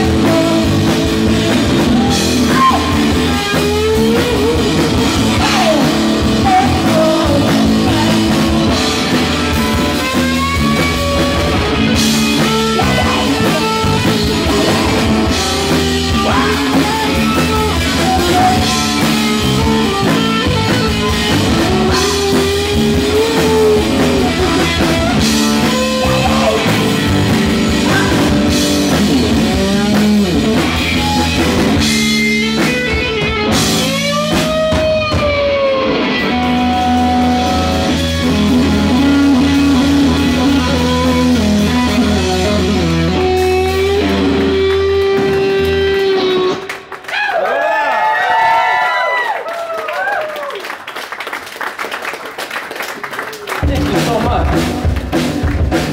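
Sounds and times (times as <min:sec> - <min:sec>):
drum kit: 0:00.0 - 0:46.9, 0:53.4 - 0:55.9
bass guitar: 0:00.0 - 0:47.1, 0:53.4 - 0:55.9
electric guitar: 0:00.0 - 0:49.7, 0:53.0 - 0:55.9.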